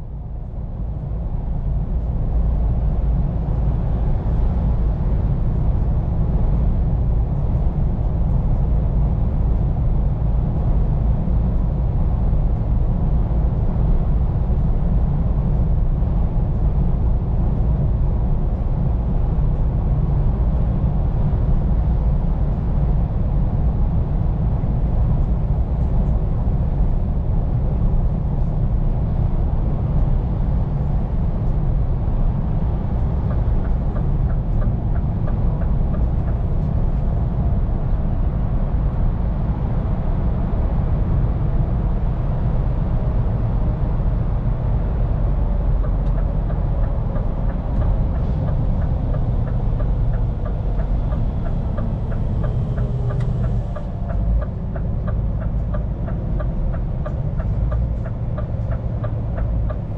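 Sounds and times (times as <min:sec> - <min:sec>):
truck engine rumble: 0:00.0 - 0:59.9.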